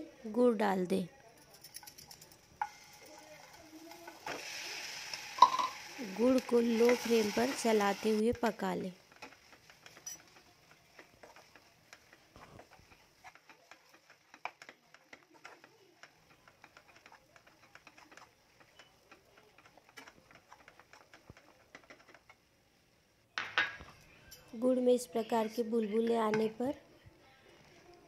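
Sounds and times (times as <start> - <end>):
jaggery crackling in ghee: 1.2 - 28.0
spoon stirring in metal pan: 1.4 - 22.8, 25.2 - 26.8.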